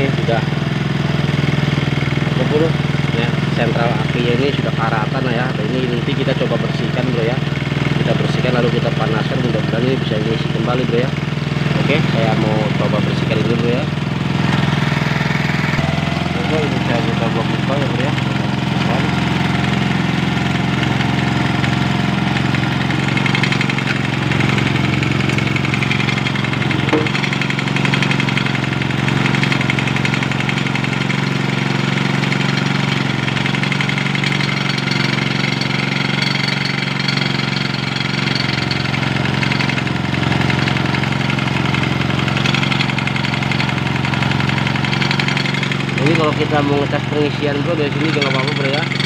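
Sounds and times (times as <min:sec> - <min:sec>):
motorcycle engine idling: 0:00.0 - 0:49.0.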